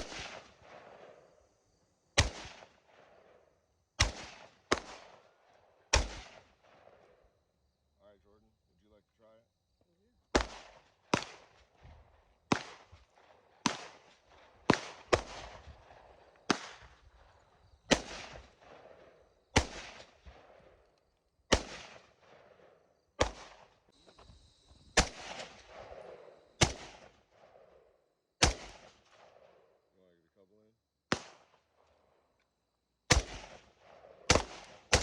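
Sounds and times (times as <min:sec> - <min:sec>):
rifle shots echoing: 0:00.0 - 0:07.3, 0:10.3 - 0:20.9, 0:21.5 - 0:23.9, 0:24.8 - 0:29.8, 0:31.1 - 0:31.8, 0:33.1 - 0:35.0.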